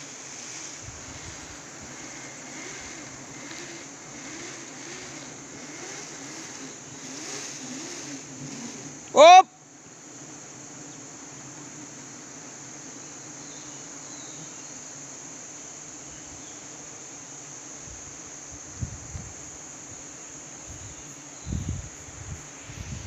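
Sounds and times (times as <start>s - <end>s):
forest insects droning: 0.0s - 23.0s.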